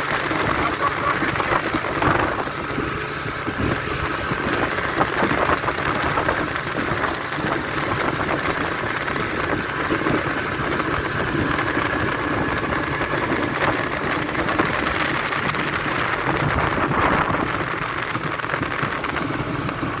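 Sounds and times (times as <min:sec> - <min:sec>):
rush of wind and water: 0:00.0 - 0:20.0
speedboat engine running: 0:00.0 - 0:20.0.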